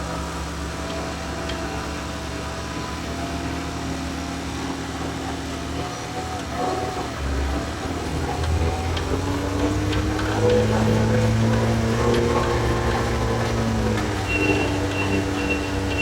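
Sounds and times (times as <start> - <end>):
diesel engine revving: 0.0 - 16.0.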